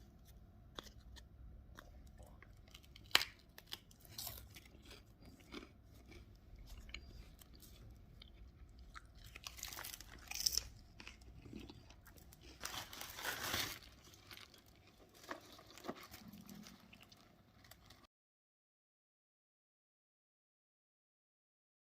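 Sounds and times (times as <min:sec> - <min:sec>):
wafers crunching when chewed: 0:00.1 - 0:18.1.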